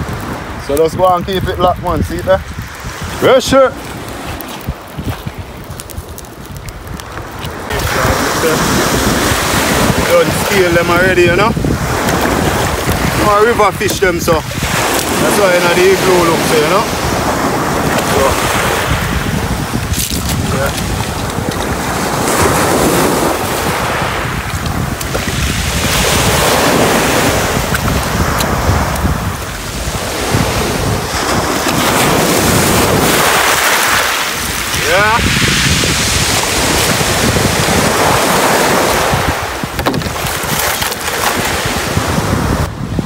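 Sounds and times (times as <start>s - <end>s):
rushing water: 0.0s - 43.0s
wind buffeting microphone: 0.0s - 43.0s.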